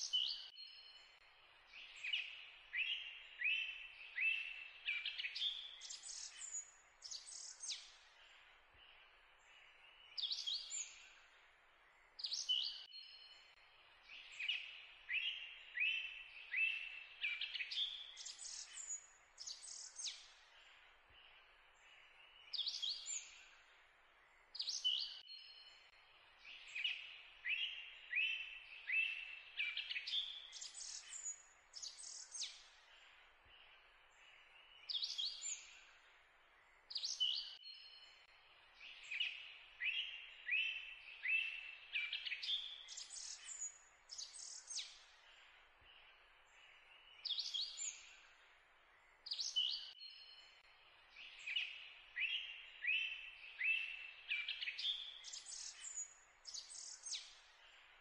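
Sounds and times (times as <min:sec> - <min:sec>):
songbirds chirping and whistling: 0:00.0 - 0:58.0.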